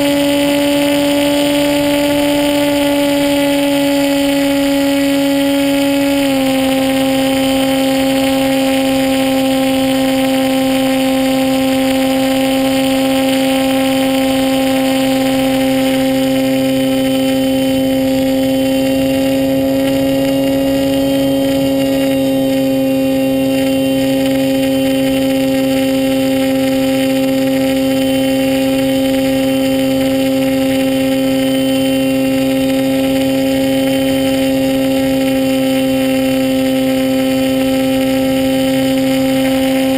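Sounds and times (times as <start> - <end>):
model plane motor and propeller: 0.0 - 39.9.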